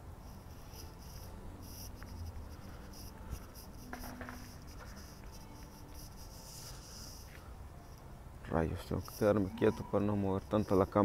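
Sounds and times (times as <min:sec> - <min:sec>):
quiet outdoor ambience: 0:00.0 - 0:11.0.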